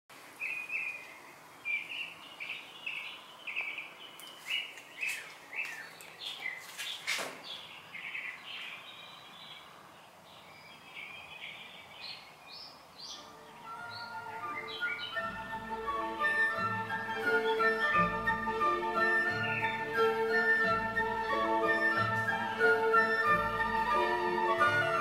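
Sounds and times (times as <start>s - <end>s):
small birds chirping: 0.2s - 25.0s.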